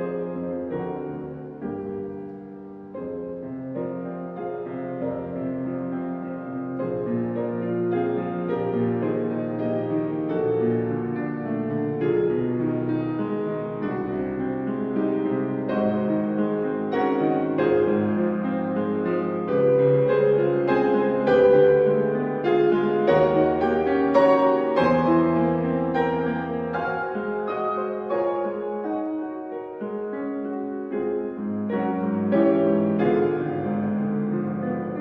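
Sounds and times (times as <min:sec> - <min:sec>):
grand piano solo piece: 0:00.0 - 0:35.0.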